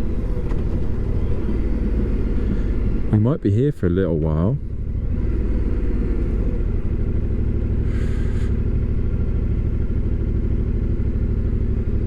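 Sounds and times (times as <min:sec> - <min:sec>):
motorcycle engine idling: 0:00.0 - 0:03.1, 0:04.2 - 0:12.0.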